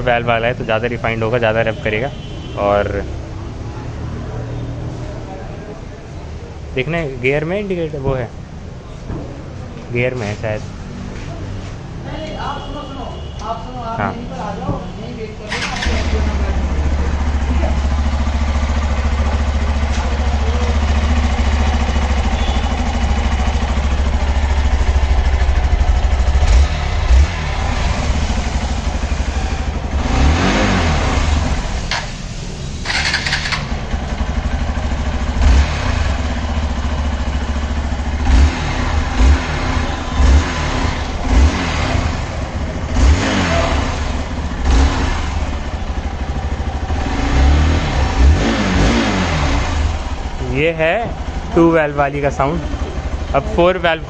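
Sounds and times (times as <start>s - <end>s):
motorcycle engine idling and revving: 0.0s - 12.1s, 15.1s - 54.0s.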